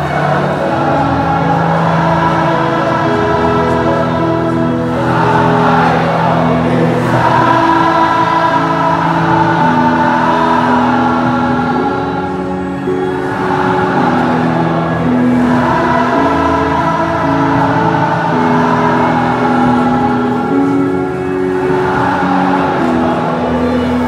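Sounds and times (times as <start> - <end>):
stadium crowd singing a chant: 0.0 - 24.0.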